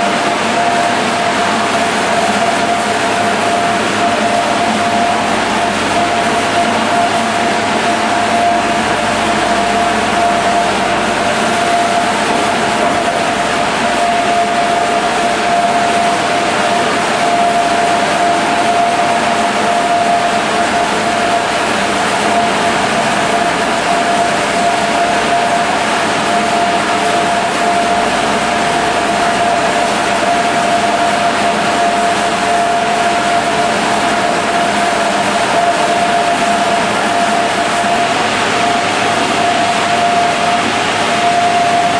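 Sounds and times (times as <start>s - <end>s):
mill machinery running: 0.0s - 41.9s.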